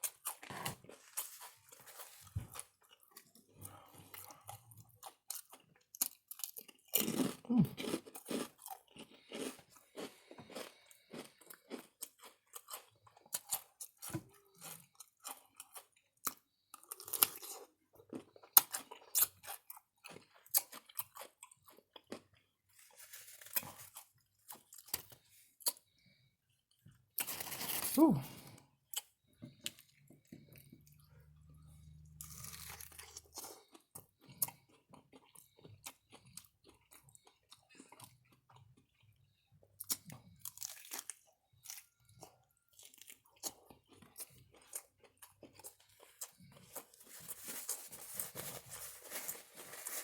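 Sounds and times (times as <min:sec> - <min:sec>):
crunching potato chips: 0:00.0 - 0:25.9, 0:32.0 - 0:50.0.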